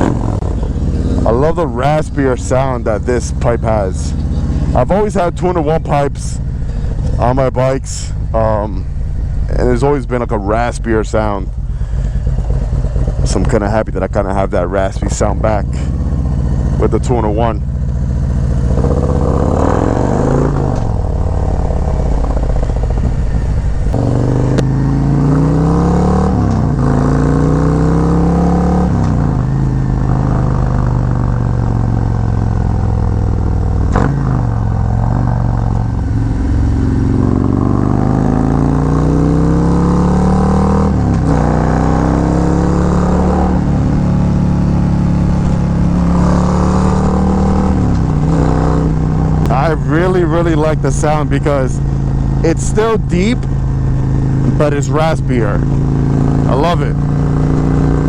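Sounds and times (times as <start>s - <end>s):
motorcycle accelerating and shifting: 0.0s - 58.0s.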